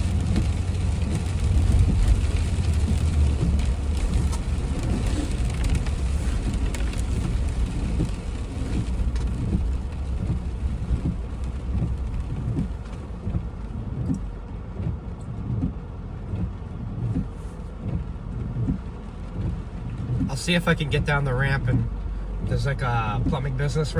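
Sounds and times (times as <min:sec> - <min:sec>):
rain hitting a car: 0:00.0 - 0:23.9
road and engine rumble: 0:00.0 - 0:23.9.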